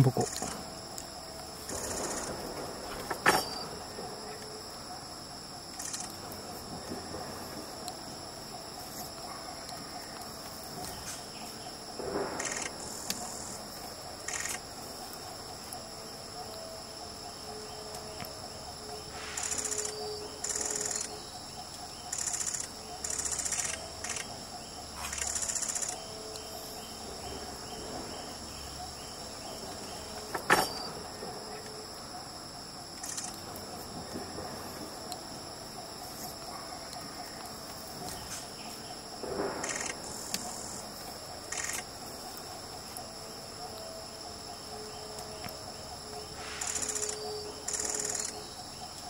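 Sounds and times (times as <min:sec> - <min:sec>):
insect rasping bursts: 0:00.0 - 0:17.6, 0:19.0 - 0:21.4, 0:22.0 - 0:44.4, 0:46.3 - 0:48.4
high-pitched insect drone: 0:00.0 - 0:49.0.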